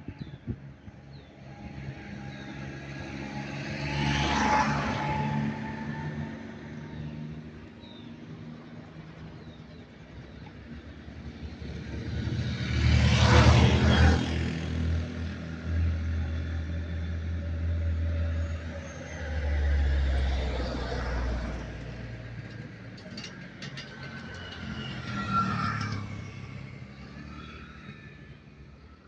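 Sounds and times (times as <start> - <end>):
passing traffic: 0.0 - 29.0
vehicle engine rumble: 0.0 - 29.0.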